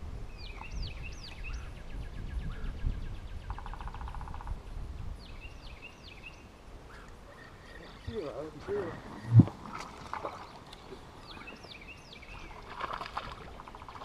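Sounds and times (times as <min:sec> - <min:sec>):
wind rumble on microphone: 0:00.0 - 0:06.4, 0:07.3 - 0:14.0
birds chirping and trilling: 0:00.3 - 0:14.0.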